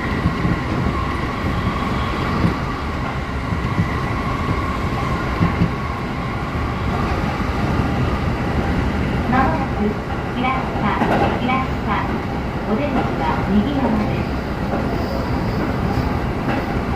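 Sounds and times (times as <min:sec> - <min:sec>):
train wheels rumbling on rails: 0:00.0 - 0:16.9.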